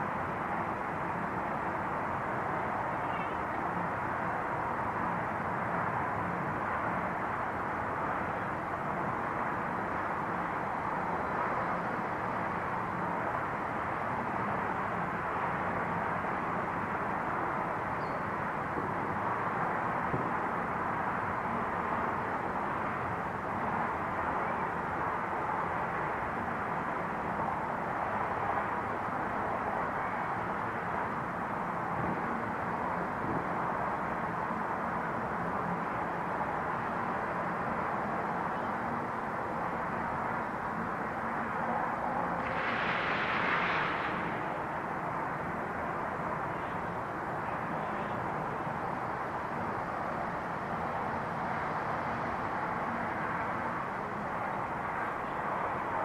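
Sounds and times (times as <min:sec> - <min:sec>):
outdoor neighborhood background roar: 0:00.0 - 0:56.0.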